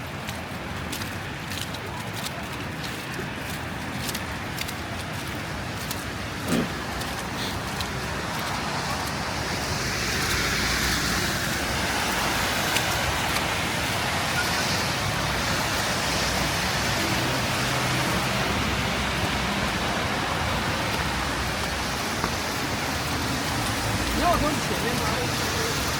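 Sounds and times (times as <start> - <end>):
tyres hissing on slushy road: 0.0 - 25.9.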